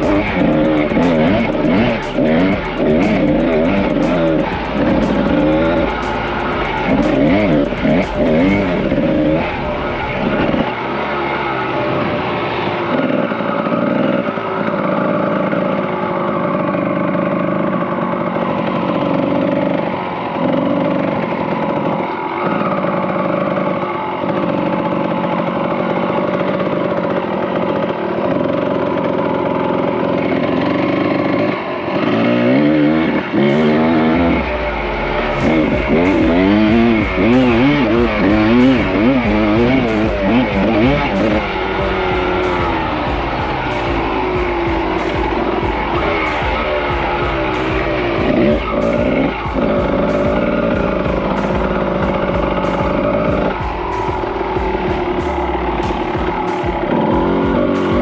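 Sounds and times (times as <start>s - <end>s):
dirt bike engine revving: 0.0s - 23.8s, 27.6s - 58.0s.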